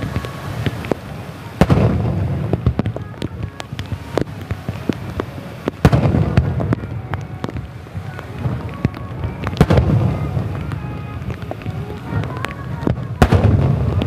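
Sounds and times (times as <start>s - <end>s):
crackling firework pops: 0.0s - 14.0s
firework shell bursts: 0.0s - 14.0s.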